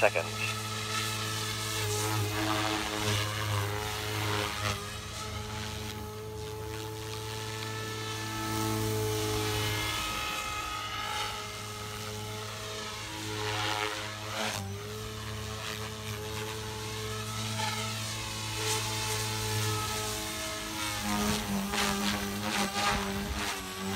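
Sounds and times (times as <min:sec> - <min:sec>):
electric motor whine: 0:00.0 - 0:23.9
rc helicopter rotor drone: 0:00.0 - 0:23.9.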